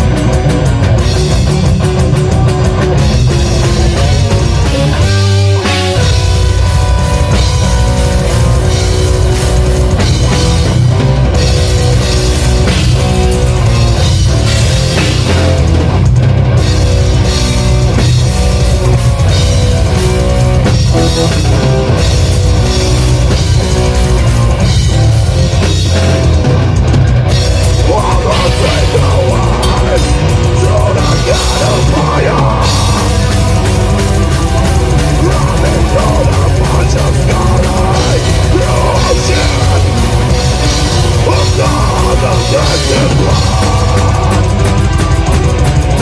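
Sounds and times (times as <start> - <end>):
bass guitar: 0.0 - 46.0
distorted electric guitars: 0.0 - 46.0
drum kit: 0.0 - 46.0.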